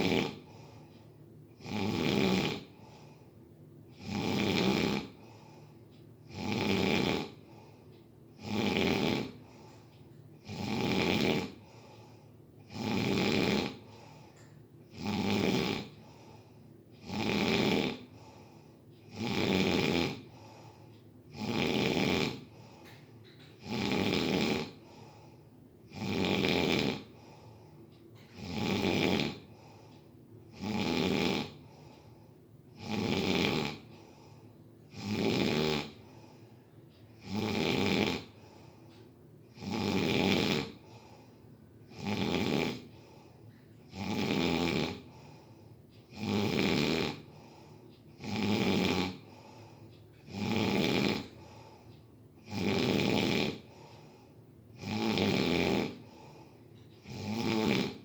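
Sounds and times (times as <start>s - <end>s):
person snoring: 0.0s - 0.9s, 1.6s - 3.2s, 4.0s - 5.7s, 6.3s - 7.8s, 8.4s - 9.8s, 10.4s - 14.3s, 14.9s - 23.0s, 23.6s - 36.5s, 37.2s - 38.8s, 39.5s - 58.0s
quiet breathing: 0.0s - 58.0s.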